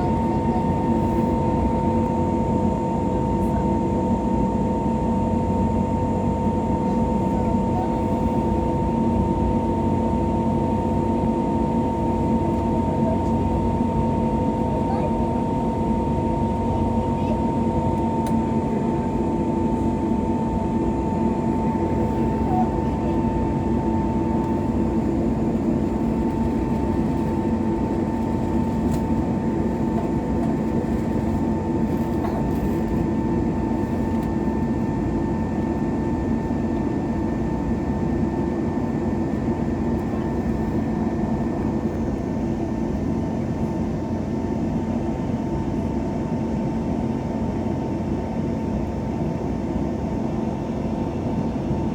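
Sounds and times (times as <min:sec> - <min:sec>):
jet engine drone in cabin: 0:00.0 - 0:51.9.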